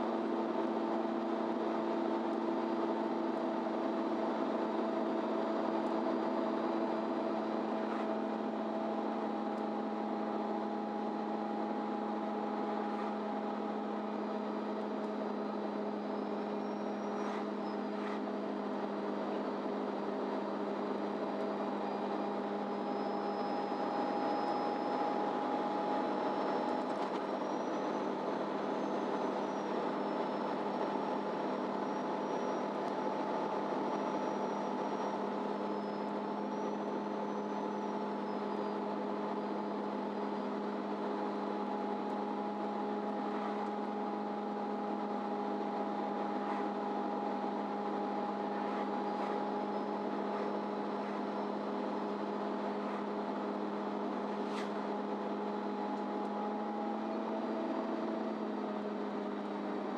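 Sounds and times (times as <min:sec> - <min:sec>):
bus diesel engine humming: 0:00.0 - 0:59.9
faint high whine: 0:00.0 - 0:59.9.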